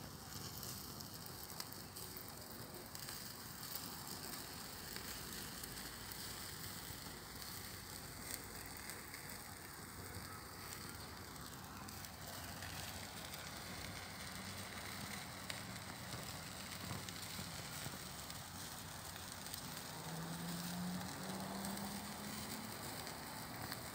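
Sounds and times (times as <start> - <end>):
faint fire crackling: 0.0 - 23.9
sausage sizzling on grill: 0.0 - 23.9.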